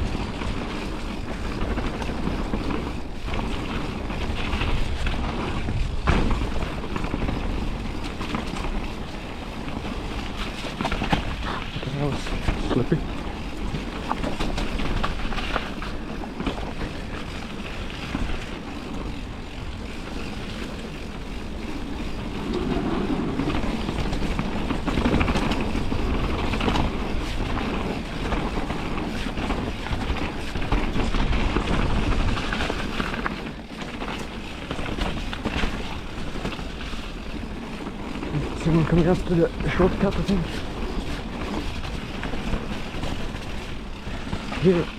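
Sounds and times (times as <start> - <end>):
bike rattling and knocking: 0.0 - 44.9
wind rush on microphone: 0.0 - 44.9.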